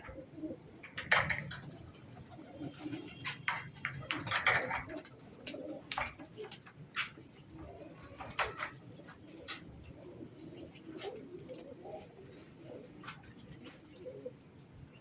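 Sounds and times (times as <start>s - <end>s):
pigeons cooing: 0.0s - 14.8s.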